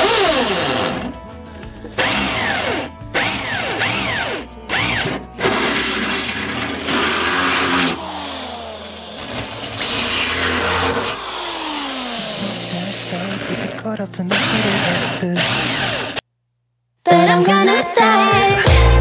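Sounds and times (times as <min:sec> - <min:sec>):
electric drill boring through metal: 0:00.0 - 0:01.2, 0:01.8 - 0:16.2.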